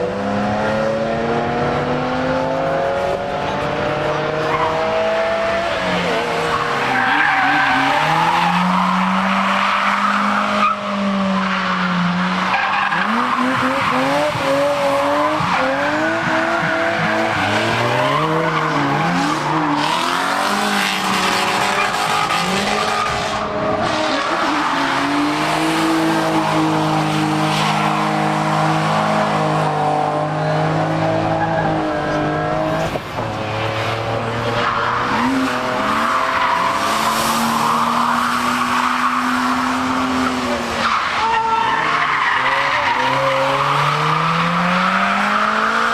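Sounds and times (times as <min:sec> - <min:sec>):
racing car engines revving: 0:00.0 - 0:45.9.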